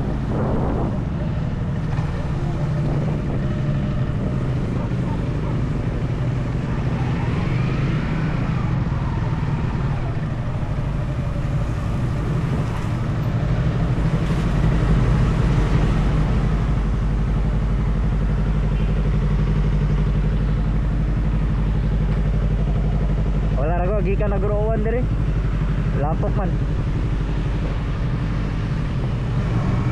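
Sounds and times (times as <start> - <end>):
motorcycle engine running: 0.0 - 29.9
road and wind noise: 0.0 - 29.9.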